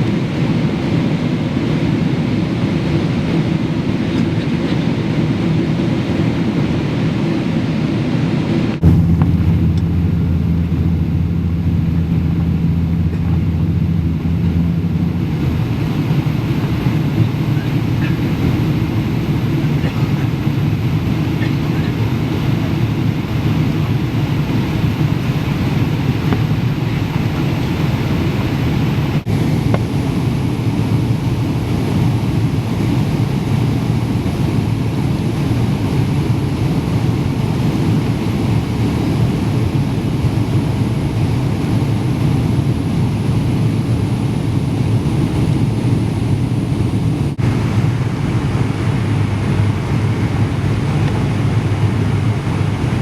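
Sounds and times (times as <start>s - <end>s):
jet airliner cabin drone: 0.0s - 53.0s.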